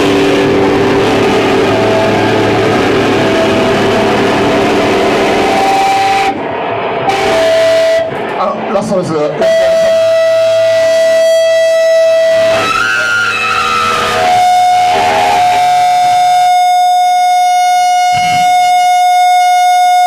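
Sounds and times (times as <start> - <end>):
guitar amplifier feedback whine: 0.0 - 20.0.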